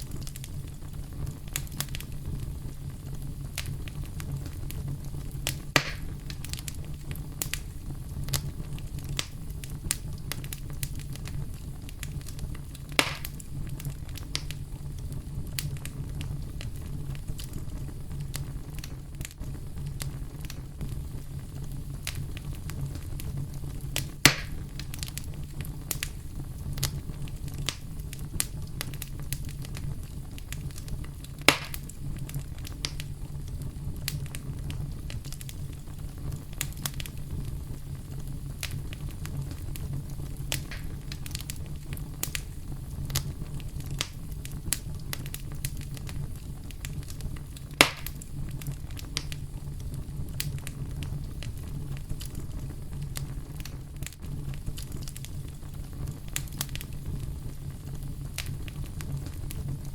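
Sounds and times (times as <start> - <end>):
campfire crackling and popping: 0.0 - 59.9
low rumble of brown noise: 0.0 - 59.9.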